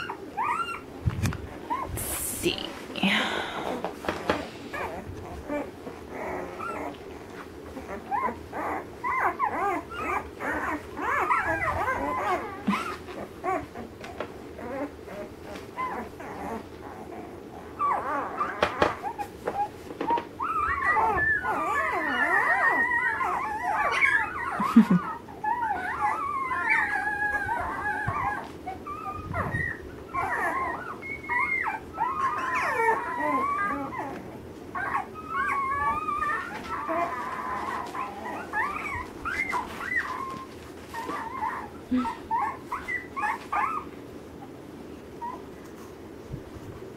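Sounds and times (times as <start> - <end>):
puppies whimpering: 0.0 - 2.0, 3.1 - 46.1.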